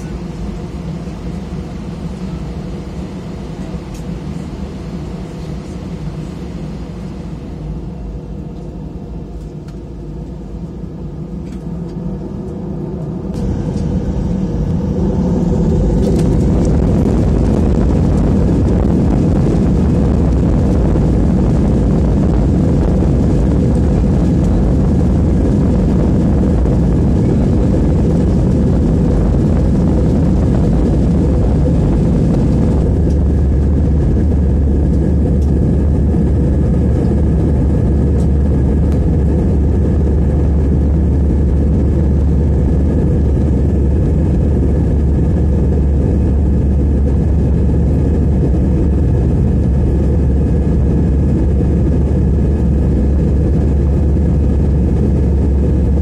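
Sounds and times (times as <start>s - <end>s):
jet engines spooling up: 0.0s - 56.0s.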